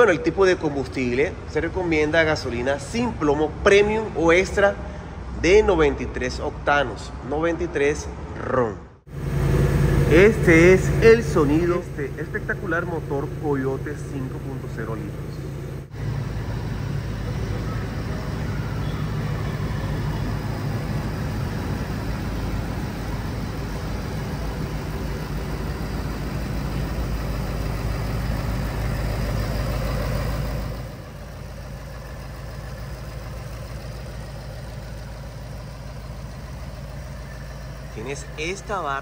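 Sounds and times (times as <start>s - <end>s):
car engine idling: 0.0s - 8.0s, 8.6s - 39.0s.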